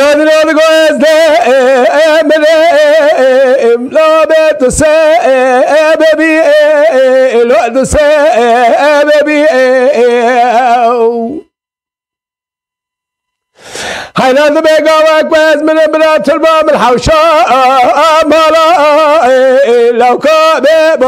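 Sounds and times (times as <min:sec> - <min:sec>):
man singing unaccompanied: 0:00.0 - 0:11.6, 0:14.1 - 0:21.0.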